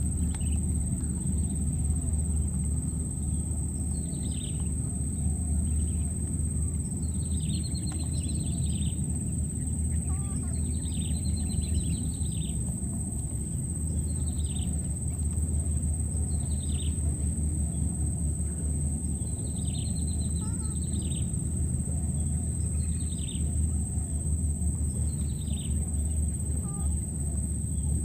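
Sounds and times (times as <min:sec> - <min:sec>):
constant low rumble: 0:00.0 - 0:28.0
steady high-pitched whine: 0:00.0 - 0:28.0.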